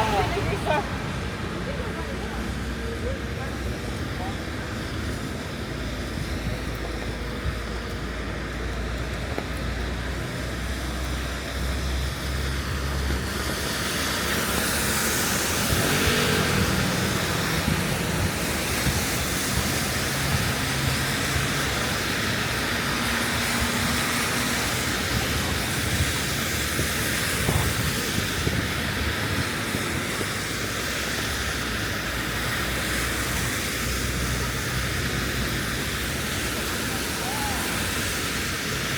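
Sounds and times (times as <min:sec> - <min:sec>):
rain hissing: 0:00.0 - 0:38.9
traffic on wet roads: 0:00.0 - 0:38.9.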